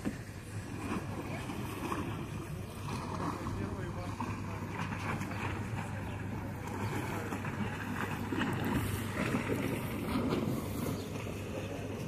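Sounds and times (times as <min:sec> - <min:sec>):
calm sea wash: 0:00.0 - 0:12.0.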